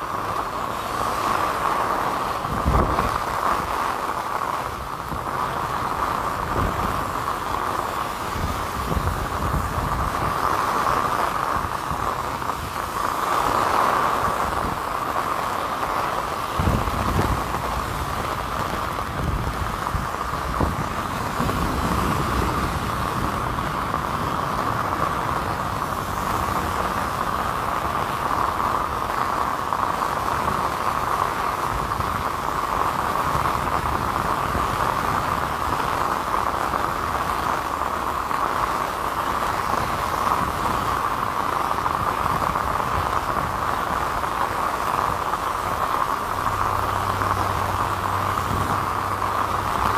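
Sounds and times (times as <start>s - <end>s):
rain on an umbrella: 0.0s - 49.9s
traffic on wet roads: 0.0s - 49.9s.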